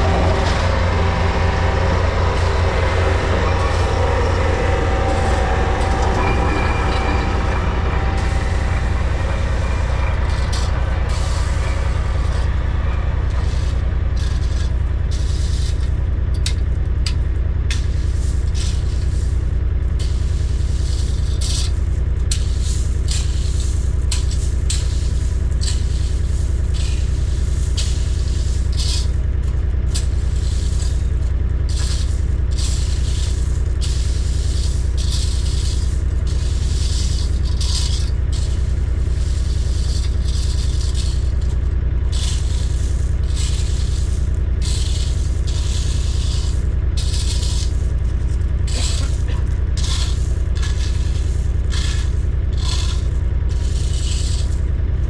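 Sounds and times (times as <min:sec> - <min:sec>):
gravel scraping and rattling: 0:00.0 - 0:55.0
heavy machine engine drone: 0:00.0 - 0:55.0.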